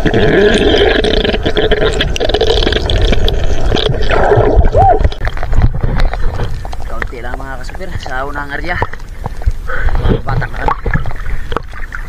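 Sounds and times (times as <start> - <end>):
underwater water noise and bubbling: 0.0 - 12.0.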